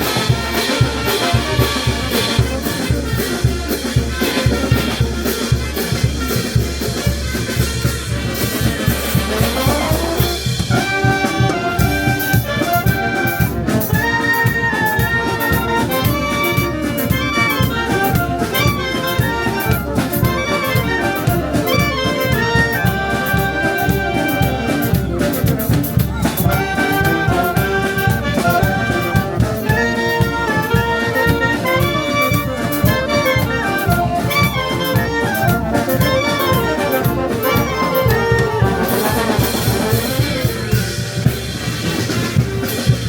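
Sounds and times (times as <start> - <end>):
bass drum beat: 0.0 - 43.0
brass band playing: 0.0 - 43.0.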